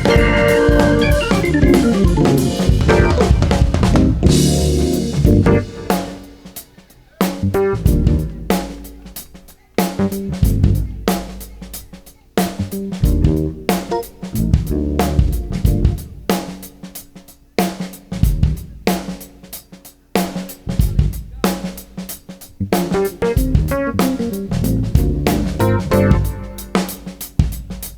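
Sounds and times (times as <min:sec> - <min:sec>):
jazz-fusion band playing live: 0:00.0 - 0:17.0, 0:20.2 - 0:27.9
drum kit playing: 0:00.0 - 0:27.9.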